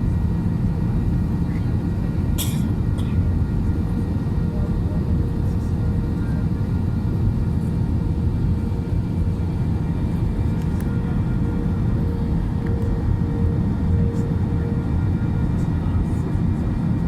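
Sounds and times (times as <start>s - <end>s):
airplane low rumble: 0.0s - 17.0s.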